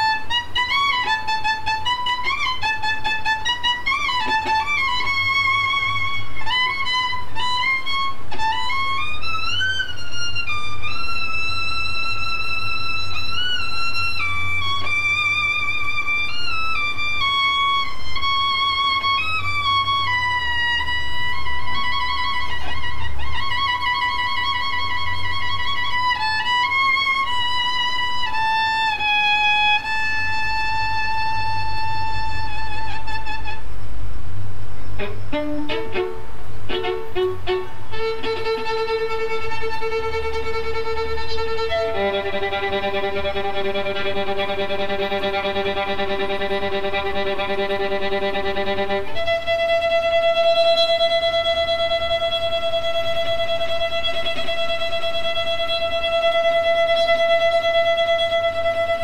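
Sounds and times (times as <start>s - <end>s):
solo violin playing: 0.0s - 34.0s, 34.7s - 59.0s.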